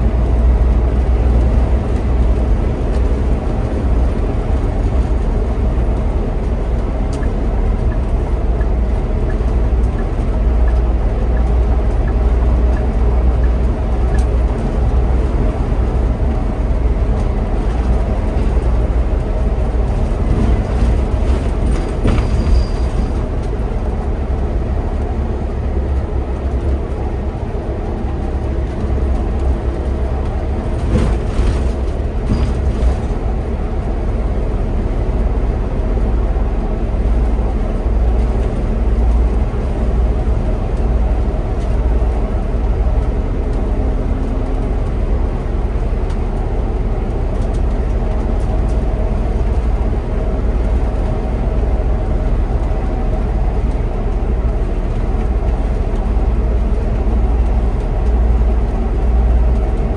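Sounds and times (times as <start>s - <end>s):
bus engine and tyre drone: 0.0s - 59.9s.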